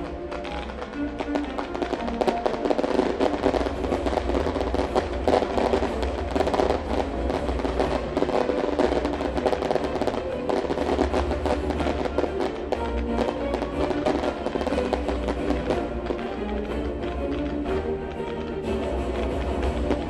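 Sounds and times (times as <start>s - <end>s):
fireworks crackling and banging: 0.0s - 20.0s
loud celtic-style music: 0.0s - 20.0s.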